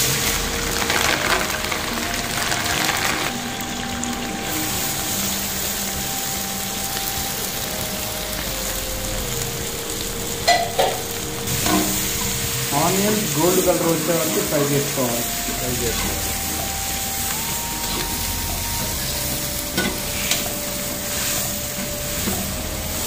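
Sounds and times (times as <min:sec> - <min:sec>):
hot oil sizzling: 0:00.0 - 0:23.0.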